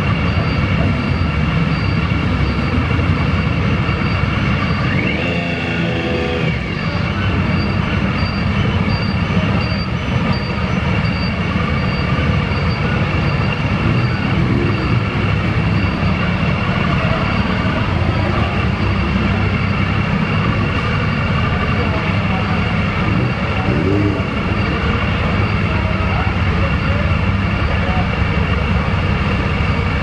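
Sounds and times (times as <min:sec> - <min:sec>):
motorcycle engines running: 0:00.0 - 0:30.0.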